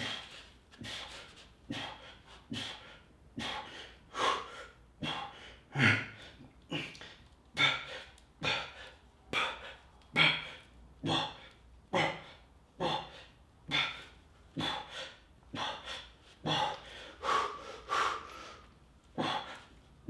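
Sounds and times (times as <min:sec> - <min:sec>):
man breathing hard: 0:00.0 - 0:19.8.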